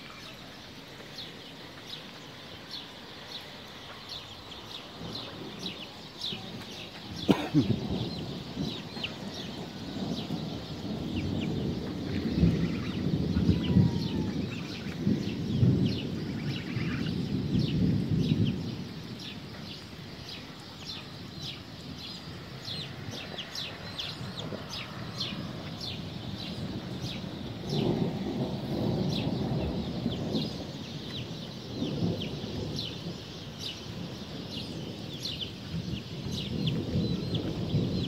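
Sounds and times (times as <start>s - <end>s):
thunder rumbling: 0.0s - 38.0s.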